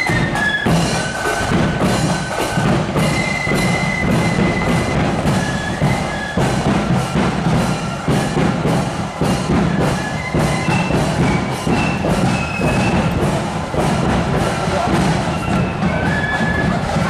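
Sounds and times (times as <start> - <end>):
marching band playing: 0.0 - 17.0
steady drumbeat: 0.0 - 17.0.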